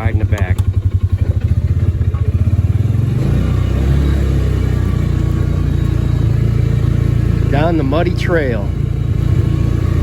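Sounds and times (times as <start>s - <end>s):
small vehicle engine: 0.0s - 10.0s.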